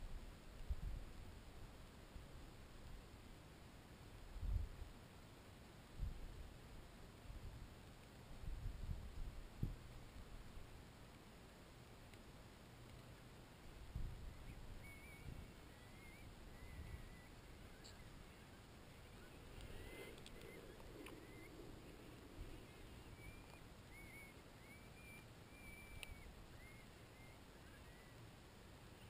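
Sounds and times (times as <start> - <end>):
soft rustle: 0.0 - 24.6.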